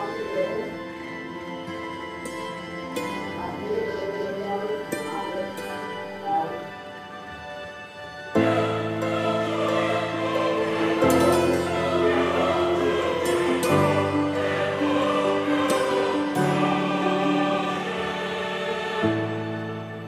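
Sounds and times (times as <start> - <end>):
slow choral chords: 0.0 - 20.0.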